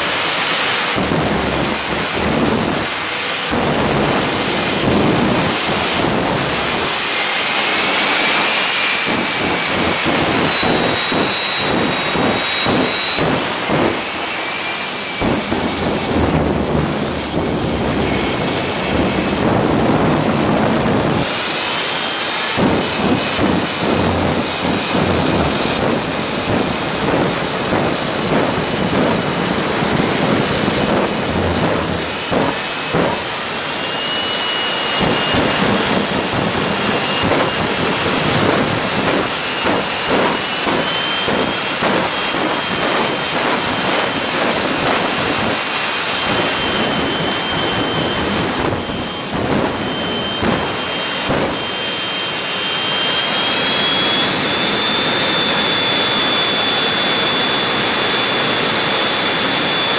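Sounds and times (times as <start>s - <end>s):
jet engine roar with high whine: 0.0s - 59.9s.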